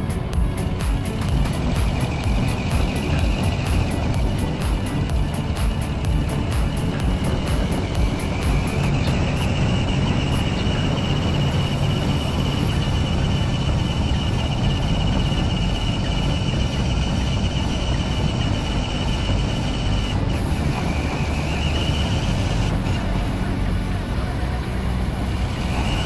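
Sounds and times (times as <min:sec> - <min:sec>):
electric motor whine: 0:00.0 - 0:26.0
wheels rumbling on wet paving: 0:00.0 - 0:26.0.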